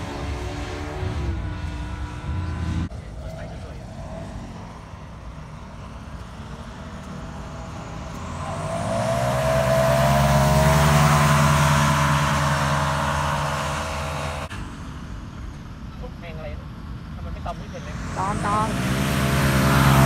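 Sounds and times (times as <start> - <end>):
paramotor engine drone: 0.0 - 20.0.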